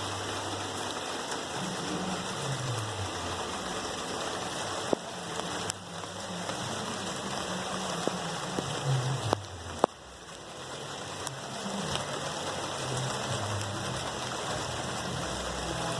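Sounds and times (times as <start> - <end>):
rain on leaves: 0.0 - 15.9.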